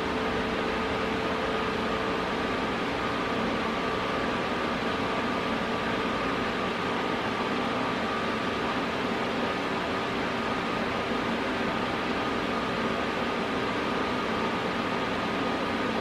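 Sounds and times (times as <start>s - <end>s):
faint constant whine: 0.0s - 16.0s.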